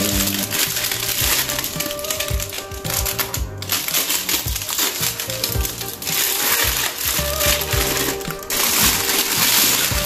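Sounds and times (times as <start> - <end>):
background music with low beat: 0.0 - 10.0
plastic wrapping rustling: 0.0 - 10.0.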